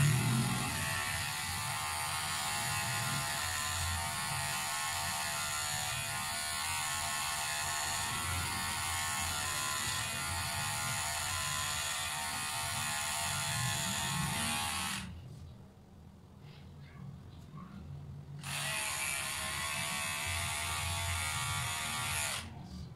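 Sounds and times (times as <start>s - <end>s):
electric hair clipper buzzing: 0.0s - 15.1s, 18.4s - 22.5s.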